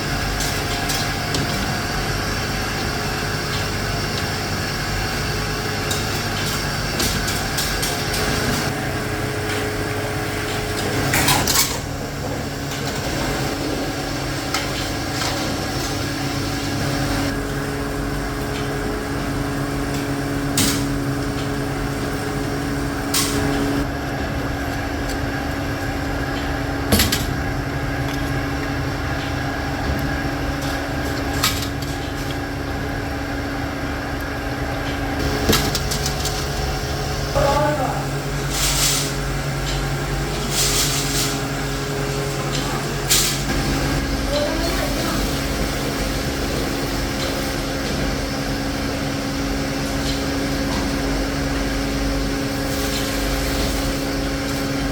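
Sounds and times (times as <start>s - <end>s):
factory machinery humming: 0.0s - 54.9s.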